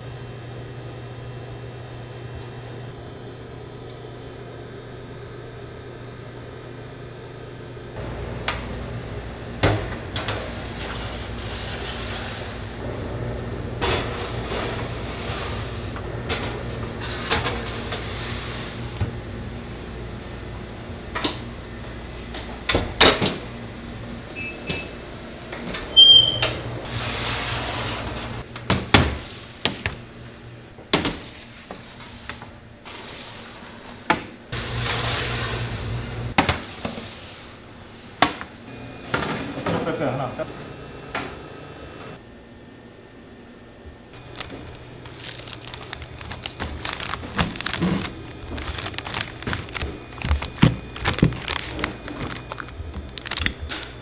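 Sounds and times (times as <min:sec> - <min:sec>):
oven machine hum: 0:00.0 - 0:54.0.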